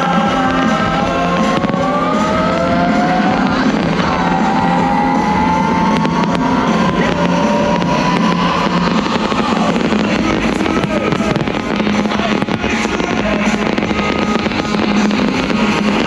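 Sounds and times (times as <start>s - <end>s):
dense steady rumble: 0.0s - 16.0s
fireworks cracking and popping: 0.0s - 16.0s.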